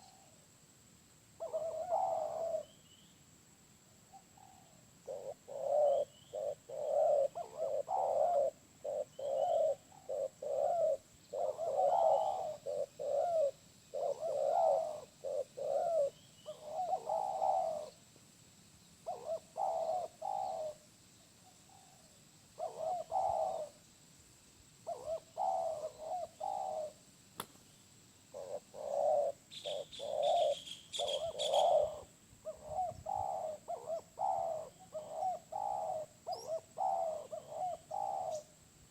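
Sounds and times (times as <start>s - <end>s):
dove cooing: 1.4s - 2.8s, 4.1s - 18.0s, 19.0s - 20.8s, 21.4s - 23.8s, 24.8s - 27.0s, 28.3s - 38.6s
small bird chirping: 4.0s - 24.0s, 24.8s - 38.6s.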